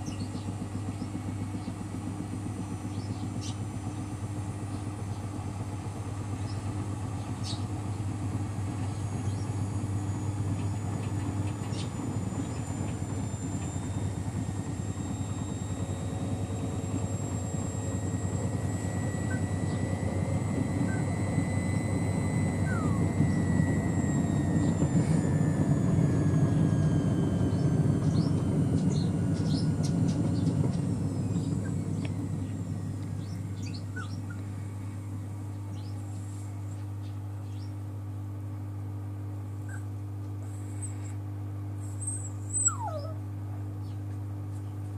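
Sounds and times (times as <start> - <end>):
washing machine spinning: 0.0 - 36.7.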